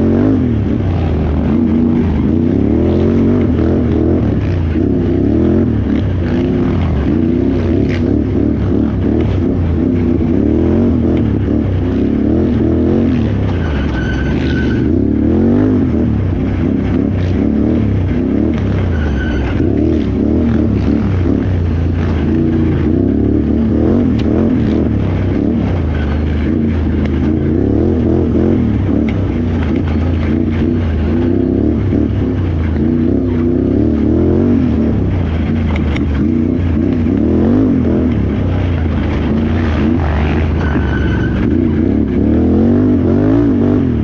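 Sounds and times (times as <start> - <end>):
atv engine revving under load: 0.0 - 44.0.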